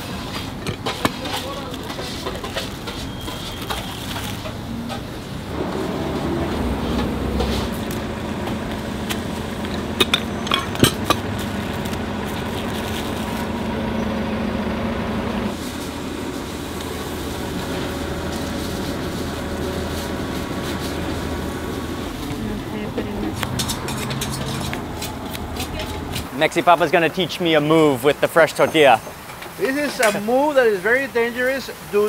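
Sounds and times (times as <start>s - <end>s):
mechanical hum: 0.0s - 26.3s.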